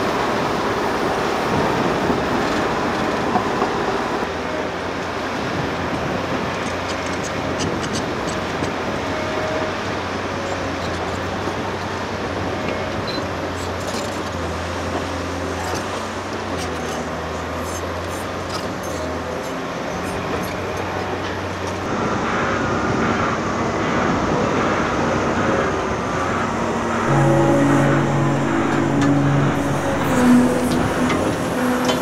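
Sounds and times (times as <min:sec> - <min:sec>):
diesel engine drone: 0:00.0 - 0:32.0.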